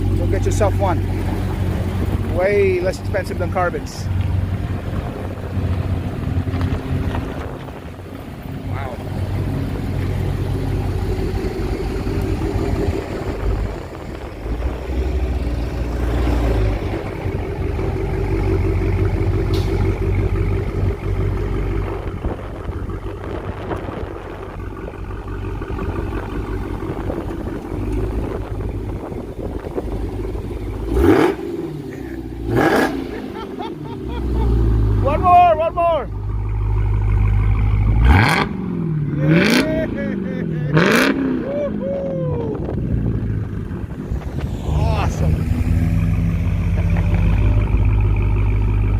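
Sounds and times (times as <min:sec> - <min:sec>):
car engine idling: 0:00.0 - 0:48.9
car engine revving: 0:00.0 - 0:48.9.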